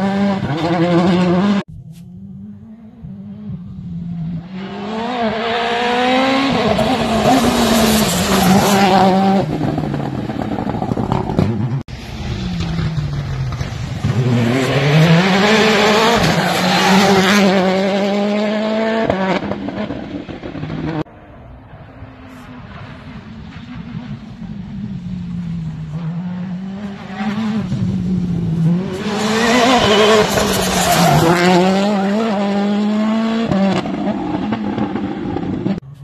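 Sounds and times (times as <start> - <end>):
rally car engine at full throttle: 0.0 - 36.0.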